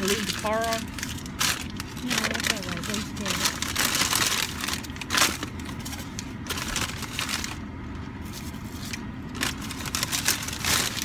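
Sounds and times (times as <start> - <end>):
food wrappers crinkling: 0.0 - 11.0.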